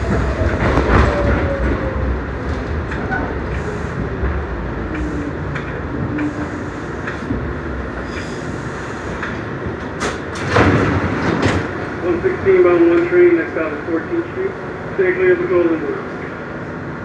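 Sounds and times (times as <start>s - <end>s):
subway car rumble: 0.0s - 17.0s.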